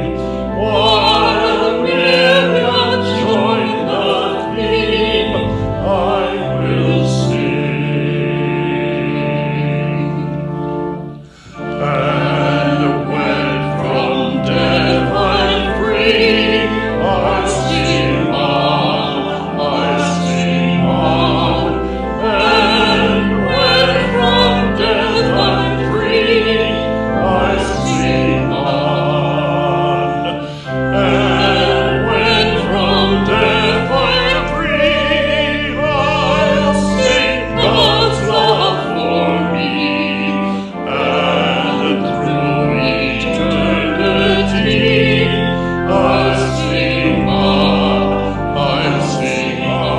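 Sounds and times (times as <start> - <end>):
choir singing: 0.0 - 49.9
instrumental accompaniment: 0.0 - 49.9.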